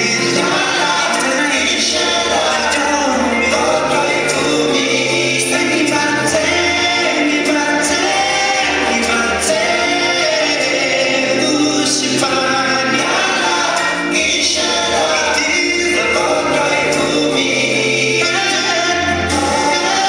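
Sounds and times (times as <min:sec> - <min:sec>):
backing music with bass line: 0:00.0 - 0:20.0
choir-like backing voices: 0:00.0 - 0:20.0
man singing into a microphone: 0:00.0 - 0:20.0.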